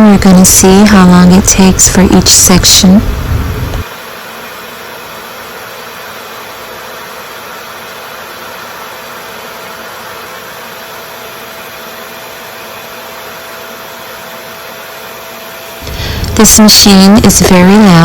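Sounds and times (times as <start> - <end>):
hair dryer rushing air: 3.0 - 18.0.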